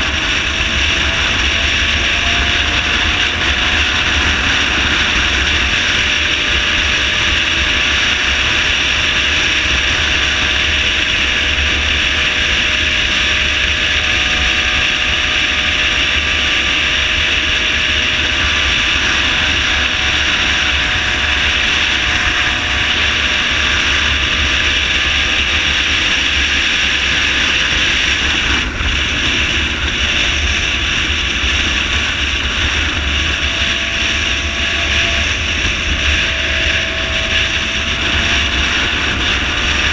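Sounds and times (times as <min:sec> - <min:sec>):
faint motorcycle engine: 0:00.0 - 0:39.9
wind buffeting microphone: 0:00.0 - 0:39.9.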